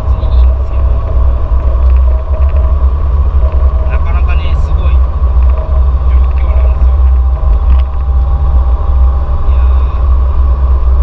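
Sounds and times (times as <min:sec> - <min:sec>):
car engine low rumble: 0:00.0 - 0:11.0
faint steady whine: 0:00.0 - 0:11.0.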